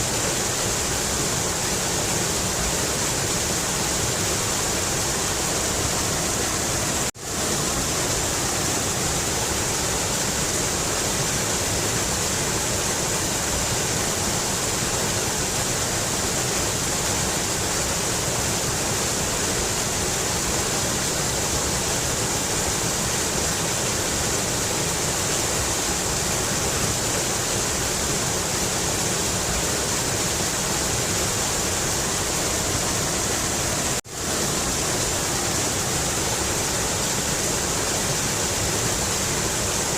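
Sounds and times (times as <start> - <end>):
river rushing water: 0.0 - 39.9.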